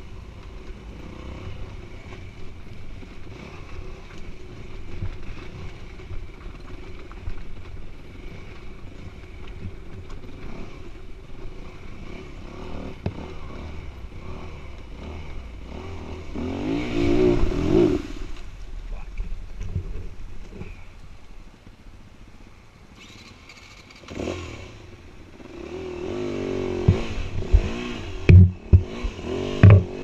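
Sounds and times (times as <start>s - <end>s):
motorcycle engine running: 0.0s - 18.5s, 22.9s - 30.0s.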